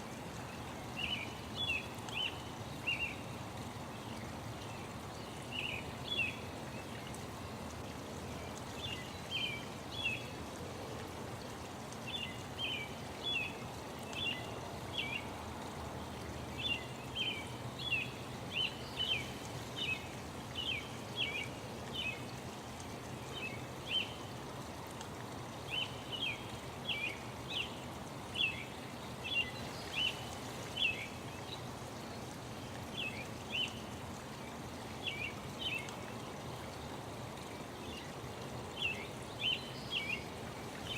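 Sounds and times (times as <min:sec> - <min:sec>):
songbirds chirping: 0:00.1 - 0:40.9.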